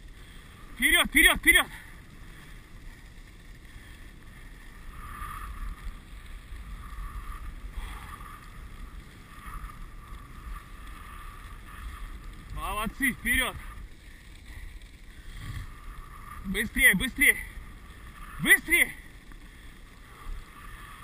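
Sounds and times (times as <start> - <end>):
sled runners hissing on snow: 1.4 - 21.0
wind rumbling on microphone: 2.0 - 21.0.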